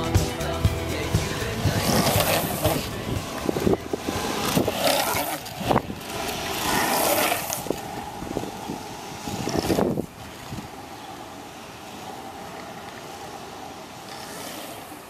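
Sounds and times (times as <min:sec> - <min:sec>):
longboard wheels rolling on asphalt: 0:00.0 - 0:15.0.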